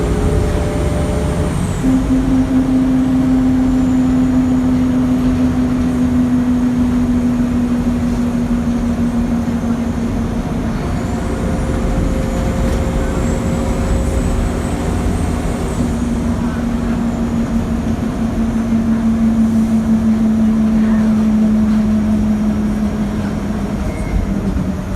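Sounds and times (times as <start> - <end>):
diesel bus and road rumble: 0.0 - 24.9.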